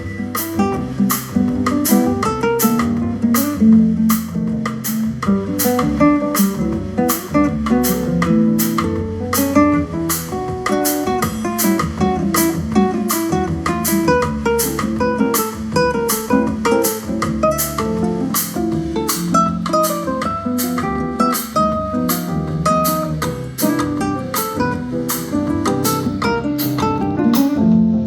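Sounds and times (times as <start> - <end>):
plucked guitar music: 0.0 - 28.0
steady drum beat: 0.0 - 28.0.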